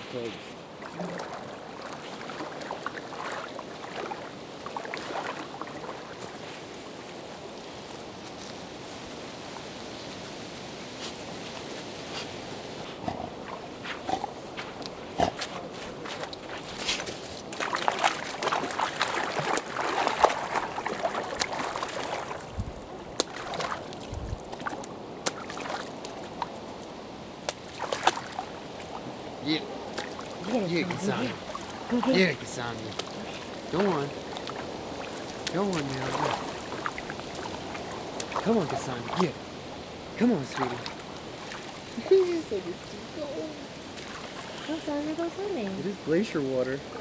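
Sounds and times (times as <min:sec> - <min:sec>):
water gurgling and splashing: 0:00.0 - 0:07.0, 0:12.8 - 0:16.8, 0:17.4 - 0:26.6, 0:27.6 - 0:47.0
river water rushing: 0:00.0 - 0:47.0.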